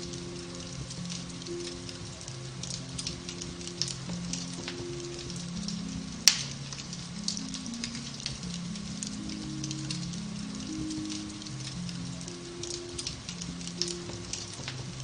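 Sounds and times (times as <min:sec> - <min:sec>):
soft music with low notes: 0:00.0 - 0:15.0
wood fire crackling: 0:00.0 - 0:15.0.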